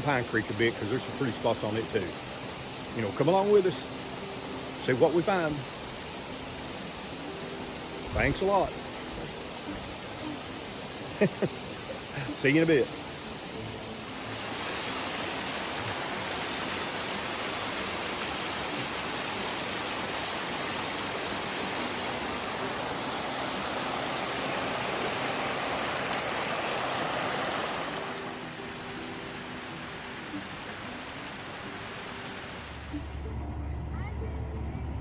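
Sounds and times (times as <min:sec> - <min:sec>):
water rushing over rocks: 0:00.0 - 0:33.3.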